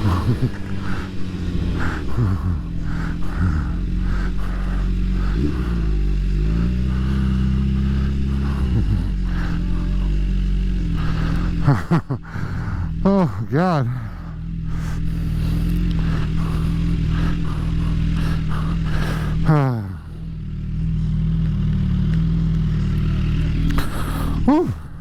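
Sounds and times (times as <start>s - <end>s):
motorcycle engine pulling hard: 0.0s - 25.0s.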